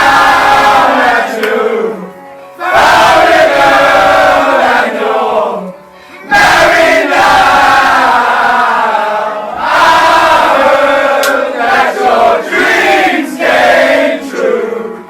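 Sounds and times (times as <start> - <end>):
men chanting in unison: 0.0 - 5.7, 6.3 - 15.0.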